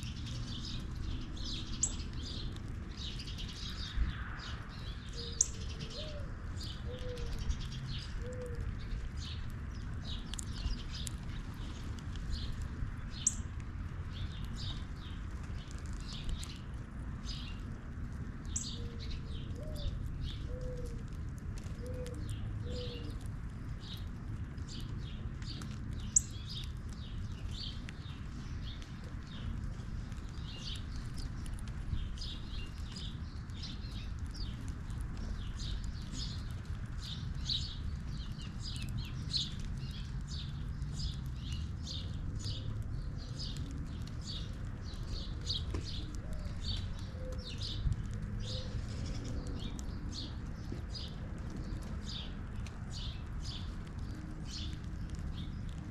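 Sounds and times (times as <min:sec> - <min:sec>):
low background rumble: 0:00.0 - 0:55.9
small birds chirping: 0:00.0 - 0:55.9.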